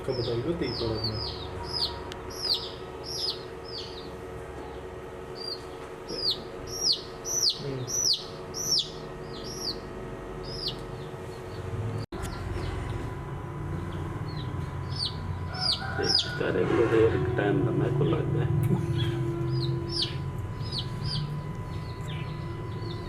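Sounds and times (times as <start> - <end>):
baby chicks peeping: 0.0 - 13.1, 13.7 - 17.4, 18.9 - 23.0
steady low hum: 0.0 - 23.0.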